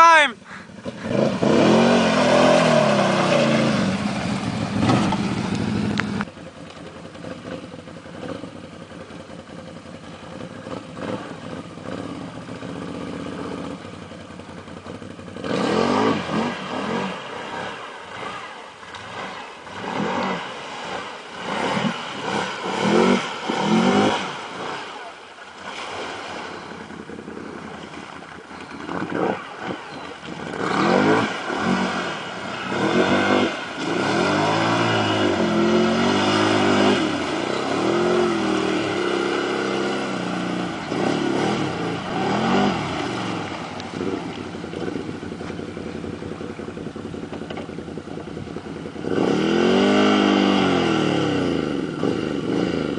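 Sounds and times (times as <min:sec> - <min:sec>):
atv engine revving: 0:00.0 - 0:52.9
water splashing: 0:00.8 - 0:08.3, 0:15.8 - 0:50.9.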